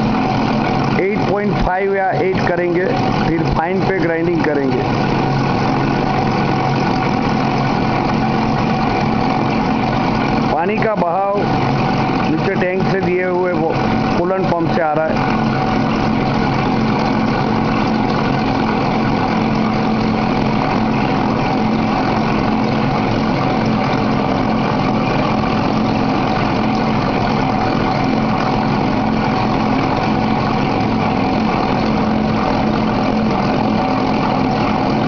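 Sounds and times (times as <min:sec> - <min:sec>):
glass grinding machine humming: 0:00.0 - 0:35.0.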